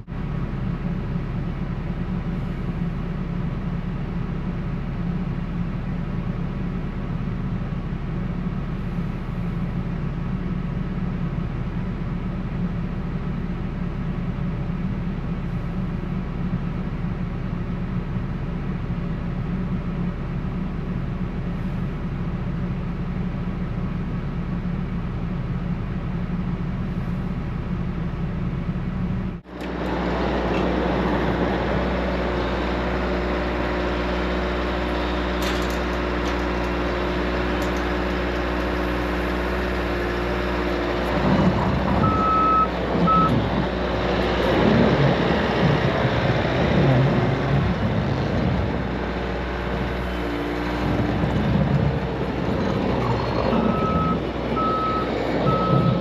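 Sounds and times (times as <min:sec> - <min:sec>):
vehicle engine droning: 0:00.0 - 0:56.0
different engine sound: 0:07.7 - 0:56.0.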